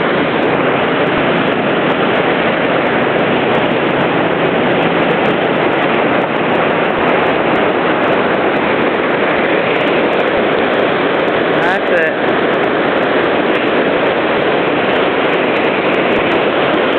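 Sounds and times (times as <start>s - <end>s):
water rushing loudly: 0.0s - 16.9s.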